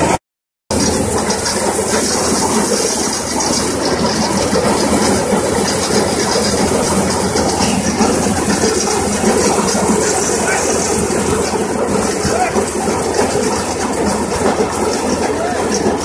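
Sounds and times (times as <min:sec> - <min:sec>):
thresher machine clattering: 0:00.0 - 0:16.0.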